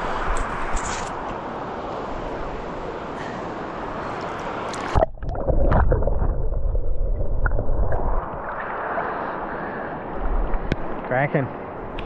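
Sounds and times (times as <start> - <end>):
river water sloshing and gurgling: 0.0 - 12.0.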